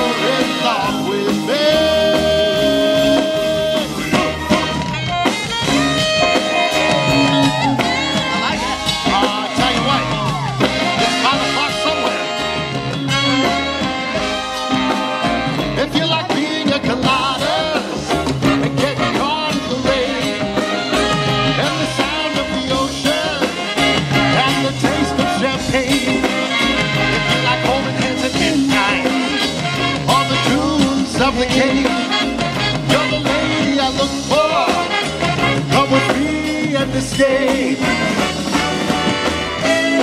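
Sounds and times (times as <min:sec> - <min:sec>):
live swing band playing: 0:00.0 - 0:40.0.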